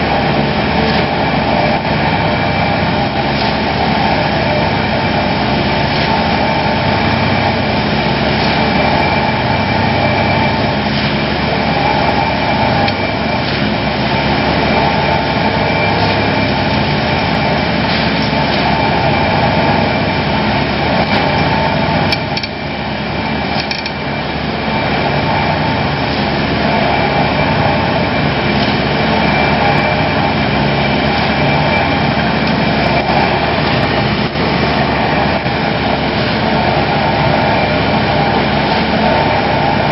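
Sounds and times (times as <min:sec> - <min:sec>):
excavator diesel engine: 0:00.0 - 0:39.9
vibratory pile hammer drone: 0:00.0 - 0:39.9.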